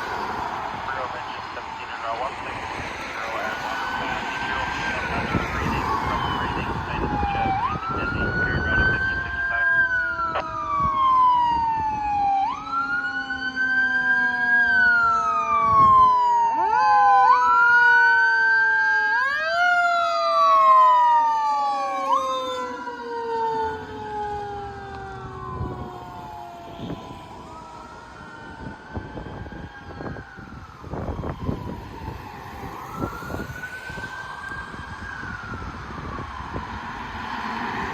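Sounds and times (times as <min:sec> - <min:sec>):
fire engine sirens wailing: 0:00.0 - 0:37.9.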